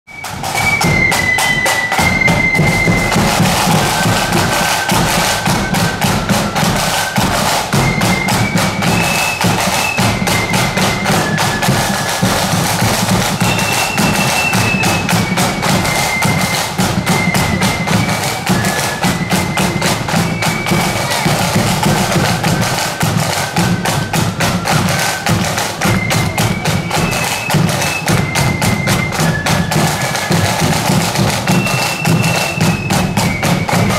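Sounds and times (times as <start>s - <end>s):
marching band melody: 0.1s - 33.9s
steady drum beat: 0.1s - 33.9s.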